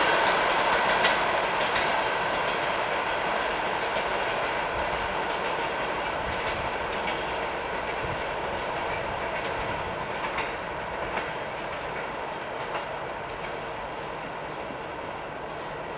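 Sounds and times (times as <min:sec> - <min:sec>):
wheels clicking over rail joints: 0:00.0 - 0:14.9
passenger train rolling past: 0:00.0 - 0:15.9.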